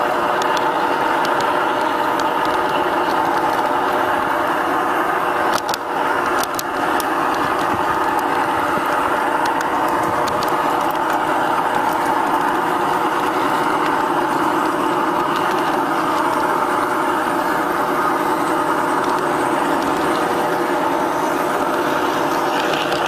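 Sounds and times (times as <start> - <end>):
model train motor whirring: 0.0 - 23.0
wheels rolling on rails: 0.0 - 23.0.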